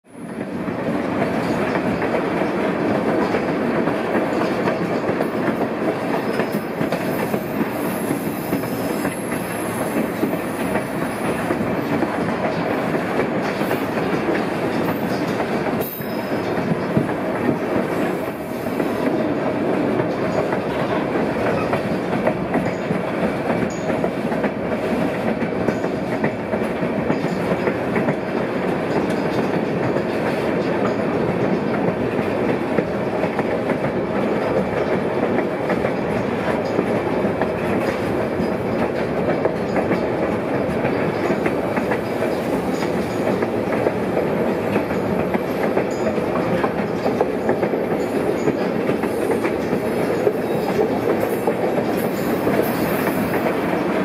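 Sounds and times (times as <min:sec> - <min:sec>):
train wheels clickety-clack: 0:00.1 - 0:54.0.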